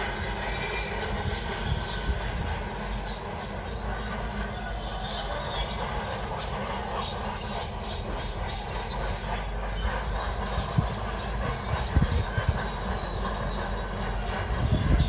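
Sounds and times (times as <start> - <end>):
bulldozer engine running: 0.0 - 15.0
steel tracks clanking and squealing: 0.0 - 15.0.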